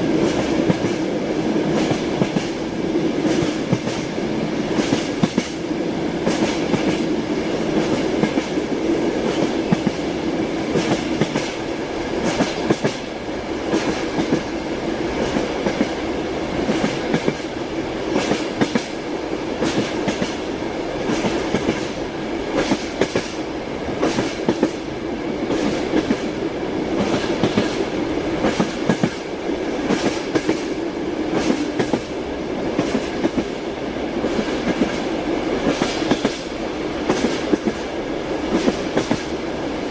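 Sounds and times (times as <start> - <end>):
train wheels clacking: 0.0 - 2.6, 3.2 - 5.6, 6.2 - 10.1, 10.7 - 16.0, 16.6 - 19.0, 19.6 - 23.4, 24.0 - 33.6, 34.2 - 39.4
train rumble and hum: 0.0 - 39.9.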